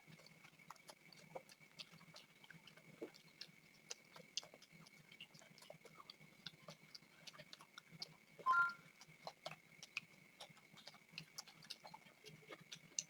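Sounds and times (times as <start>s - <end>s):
people chewing and smacking: 0.0s - 13.0s.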